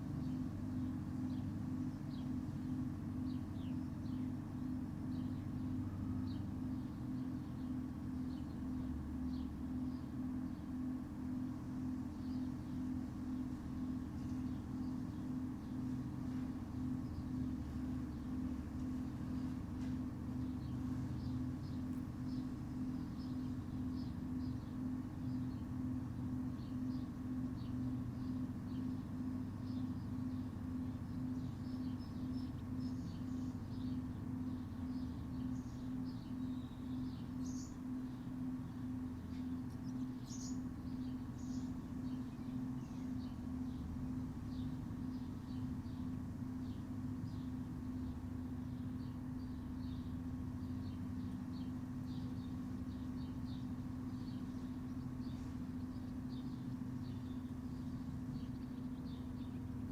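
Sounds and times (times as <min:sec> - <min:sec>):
machine hum with slow pulse: 0:00.0 - 0:59.9.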